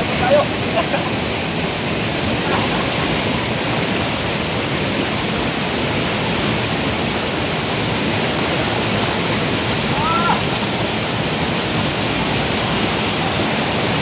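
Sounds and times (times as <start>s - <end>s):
whitewater rushing over boulders: 0.0s - 14.0s.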